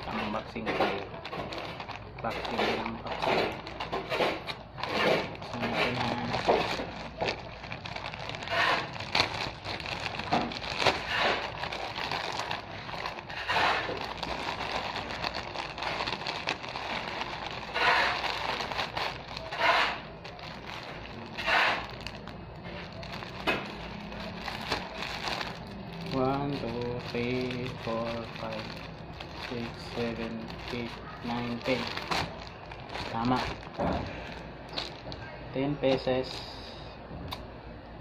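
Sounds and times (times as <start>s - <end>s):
plastic packaging crinkling: 0.0s - 36.4s.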